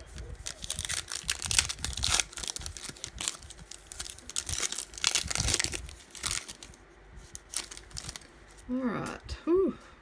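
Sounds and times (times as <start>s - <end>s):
foil wrapper tearing and crinkling: 0.0s - 8.3s.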